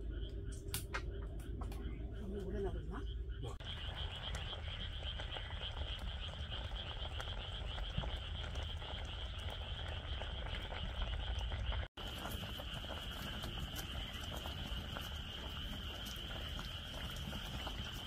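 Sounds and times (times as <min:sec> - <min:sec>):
frogs trilling: 0:00.0 - 0:18.0.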